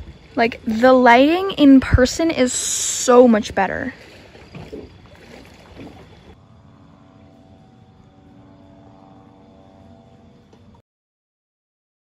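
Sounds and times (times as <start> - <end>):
distant engine drone: 0.0 - 10.8
low rumbling noise: 0.0 - 10.8.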